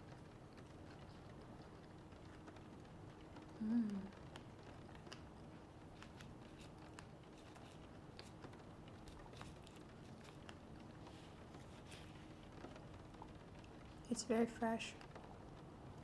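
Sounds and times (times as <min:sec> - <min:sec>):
chewing pastry: 0:00.0 - 0:14.0
faint steady hum: 0:00.0 - 0:16.0.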